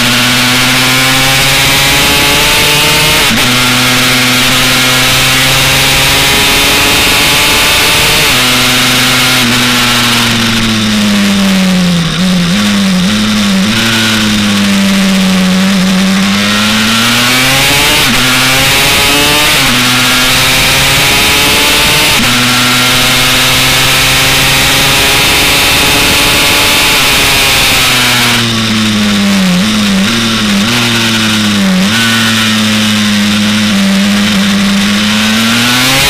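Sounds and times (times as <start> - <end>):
two-stroke motorbike engine revving: 0.0 - 36.0.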